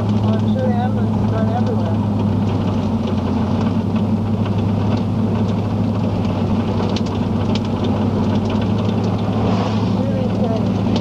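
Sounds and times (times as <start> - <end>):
low engine hum: 0.0 - 11.0
road and wind rush: 0.0 - 11.0.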